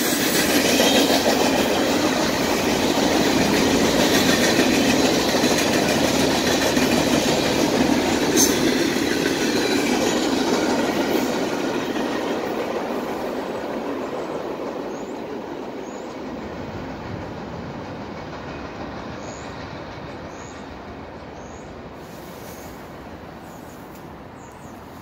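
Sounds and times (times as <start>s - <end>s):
freight train wheels on rails: 0.0s - 25.0s.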